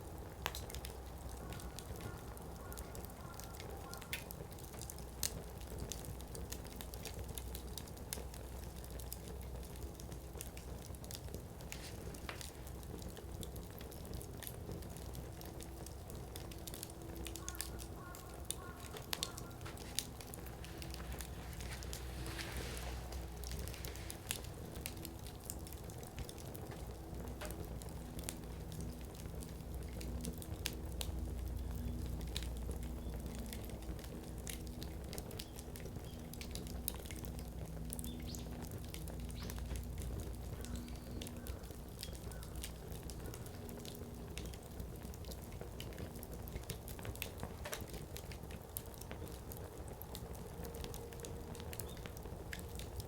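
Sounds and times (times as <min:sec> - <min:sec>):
firewood crackling and popping: 0:00.0 - 0:53.0
low steady rumble: 0:04.4 - 0:53.0.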